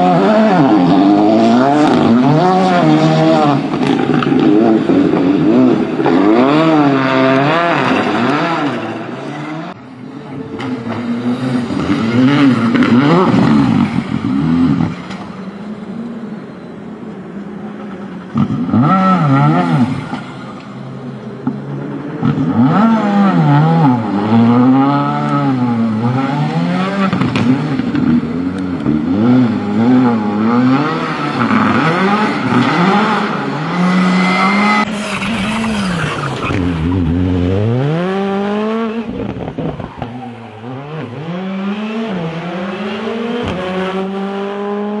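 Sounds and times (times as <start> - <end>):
rally car engines revving: 0.0 - 45.0.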